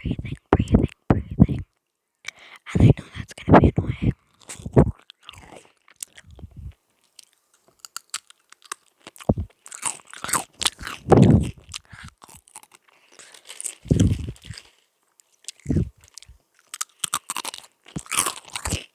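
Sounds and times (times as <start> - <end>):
person chewing crunchy crisps: 0.2 - 18.9.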